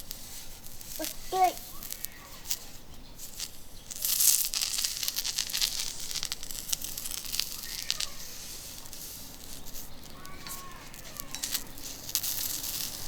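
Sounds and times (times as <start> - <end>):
oil sizzling on a griddle: 0.0 - 13.0.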